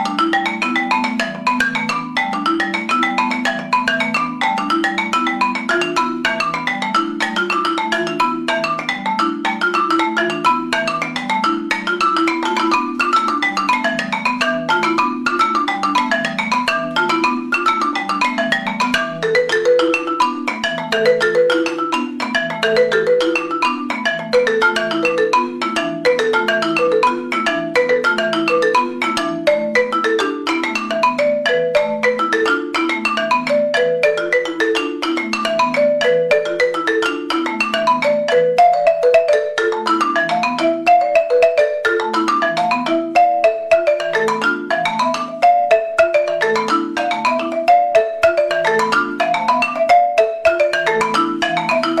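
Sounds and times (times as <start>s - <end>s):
marimba music: 0.0s - 52.0s.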